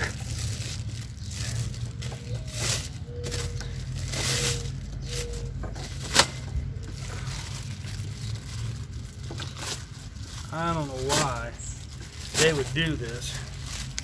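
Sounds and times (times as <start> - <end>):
cardboard and paper rustling: 0.0 - 14.0.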